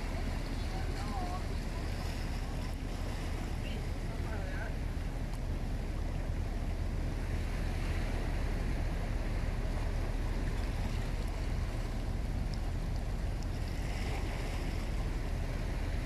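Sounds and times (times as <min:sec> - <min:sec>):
harbour water washing: 0:00.0 - 0:16.0.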